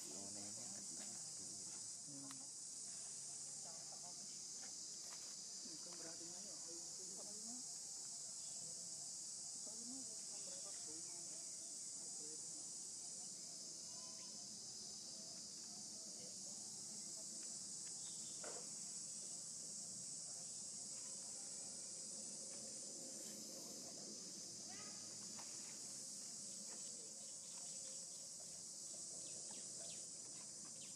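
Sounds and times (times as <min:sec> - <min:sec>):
insects chorus: 0:00.0 - 0:30.9.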